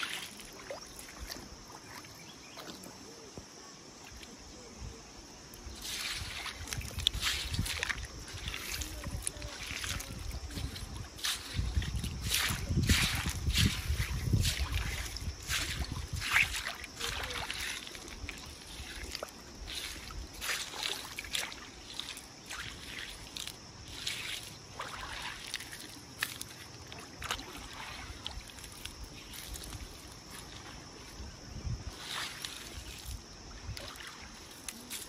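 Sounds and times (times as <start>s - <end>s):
river water sloshing and splashing: 0.0s - 4.5s, 5.4s - 35.0s.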